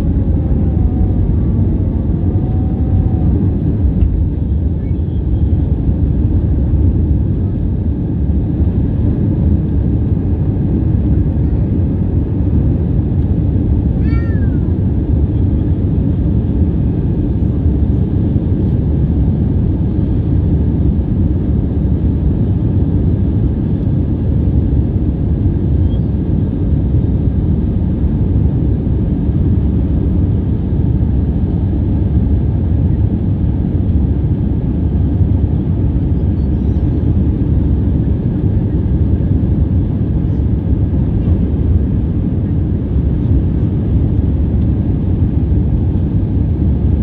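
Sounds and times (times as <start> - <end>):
jet airliner rumble: 0.0 - 47.0.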